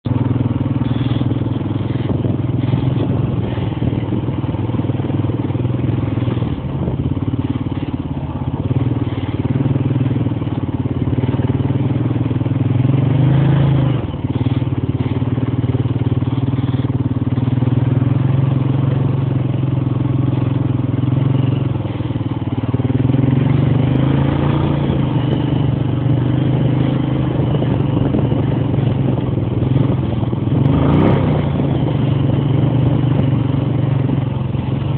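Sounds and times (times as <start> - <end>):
atv engine revving: 0.0 - 34.9.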